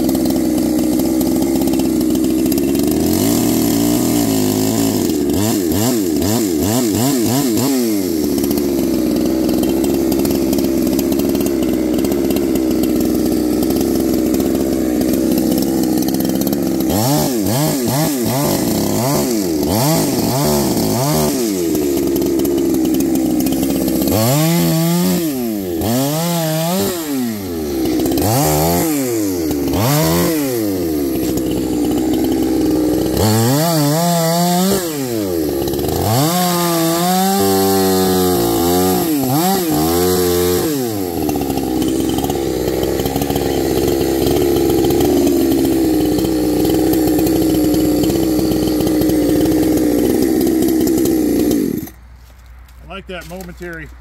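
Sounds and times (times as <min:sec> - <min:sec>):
chainsaw cutting branches: 0:00.0 - 0:54.0.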